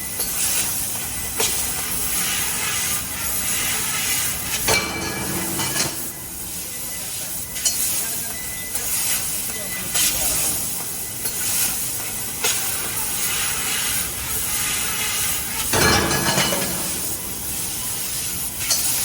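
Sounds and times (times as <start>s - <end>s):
gas jet hissing: 1.4s - 19.0s.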